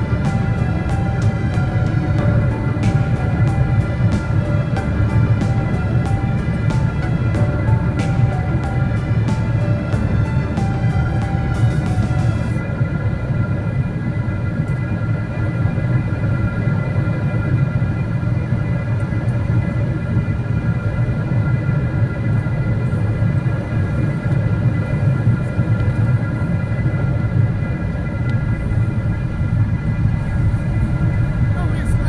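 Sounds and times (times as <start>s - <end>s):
jet engine and airflow rumble: 0.0s - 32.0s
steady whining tones: 0.0s - 32.0s.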